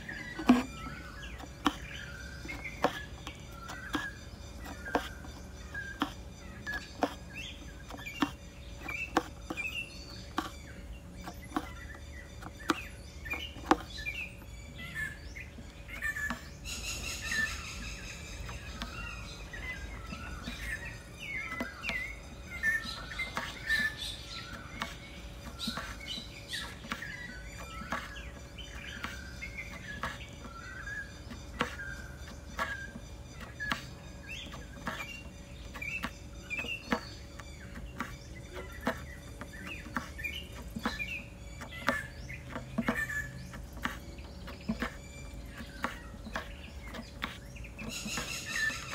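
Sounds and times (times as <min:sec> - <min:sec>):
bird chirps: 0:00.0 - 0:48.9.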